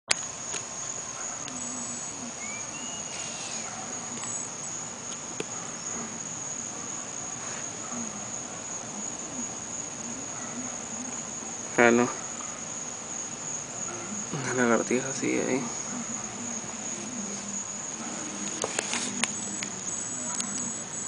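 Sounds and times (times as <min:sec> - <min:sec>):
crickets trilling: 0:00.1 - 0:21.0.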